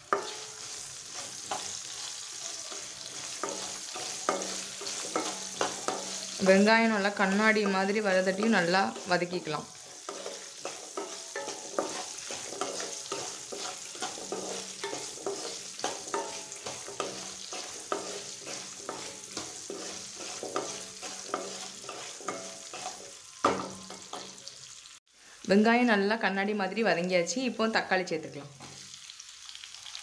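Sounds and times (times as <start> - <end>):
spatula scraping pan: 0.0 - 24.4
food sizzling in hot oil: 0.0 - 30.0.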